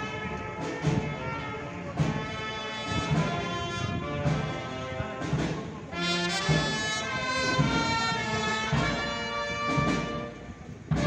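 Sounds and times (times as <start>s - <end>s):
drum beats: 0.0s - 11.0s
held brass notes: 0.0s - 11.0s.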